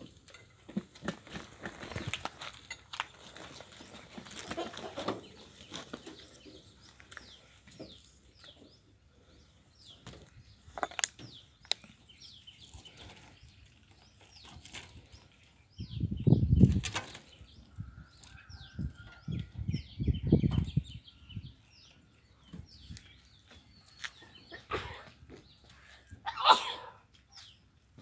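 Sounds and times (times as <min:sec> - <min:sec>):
birds chirping: 0:01.8 - 0:28.0.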